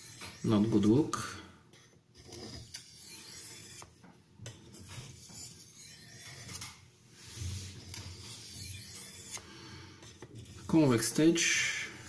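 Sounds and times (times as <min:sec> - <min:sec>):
knife scraping on whetstone: 0:00.0 - 0:01.0, 0:02.2 - 0:04.0, 0:04.7 - 0:11.8.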